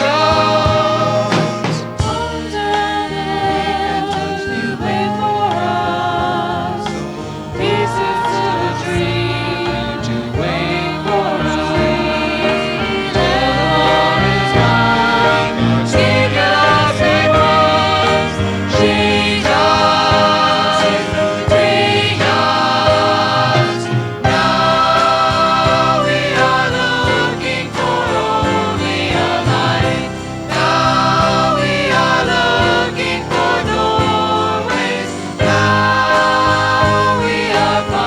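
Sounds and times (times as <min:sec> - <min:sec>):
group of voices singing: 0:00.0 - 0:38.0
instrumental accompaniment: 0:00.0 - 0:38.0.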